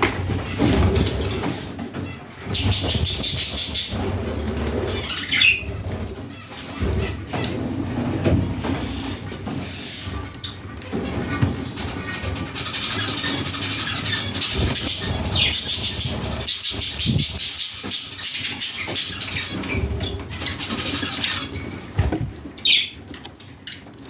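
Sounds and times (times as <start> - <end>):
budgerigars chirping and chattering: 0.1 - 24.0.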